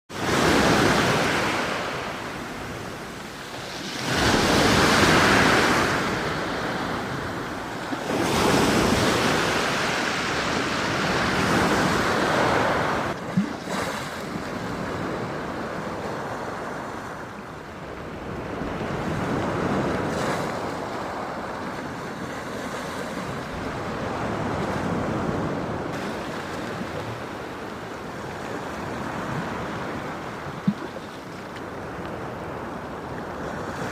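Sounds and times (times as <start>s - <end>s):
waves washing onto shore: 0.1s - 33.9s.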